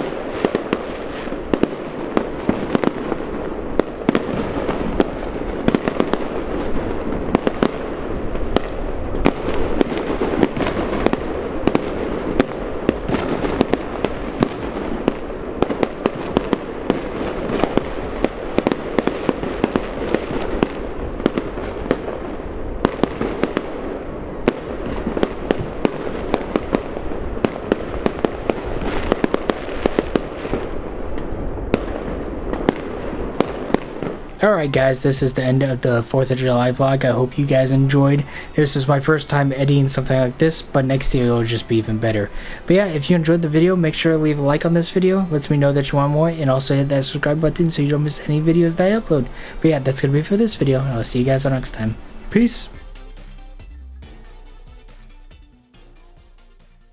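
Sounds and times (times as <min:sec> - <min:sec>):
fireworks crackling and popping: 0:00.0 - 0:56.9.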